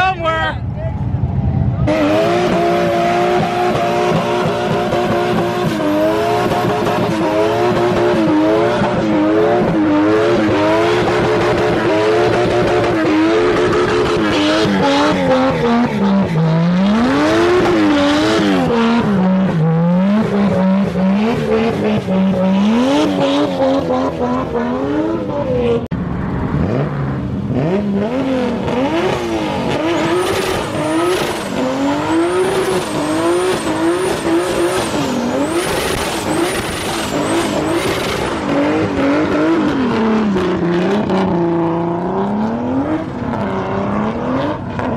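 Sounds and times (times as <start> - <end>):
car engine revving hard: 1.8 - 25.9, 26.6 - 44.9.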